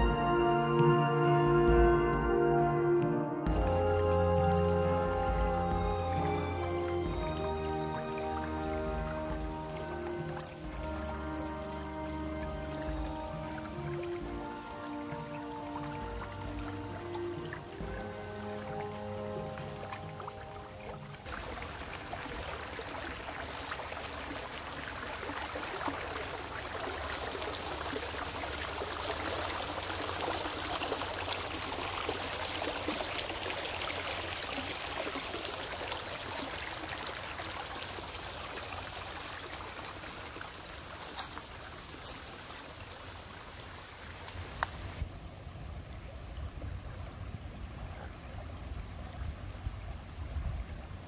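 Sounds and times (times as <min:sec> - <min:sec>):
flowing river water: 0:03.5 - 0:51.0.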